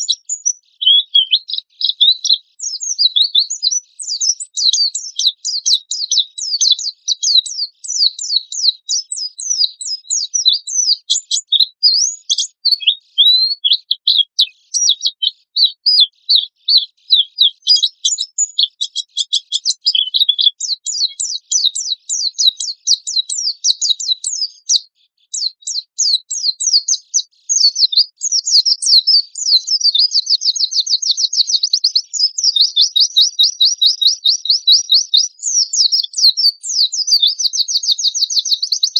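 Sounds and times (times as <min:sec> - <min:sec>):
bird singing fast chirps: 0:00.0 - 0:38.9
bird trill: 0:00.0 - 0:38.9.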